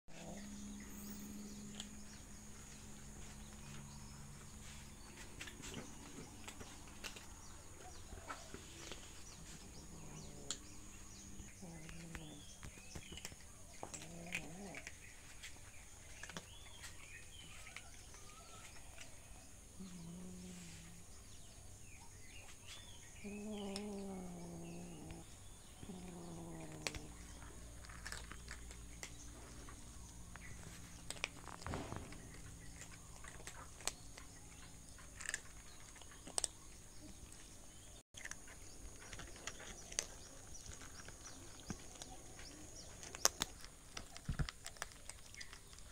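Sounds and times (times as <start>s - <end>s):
cats crunching dry kibble: 0.1s - 21.6s, 22.3s - 45.9s
small birds chirping: 0.1s - 45.9s.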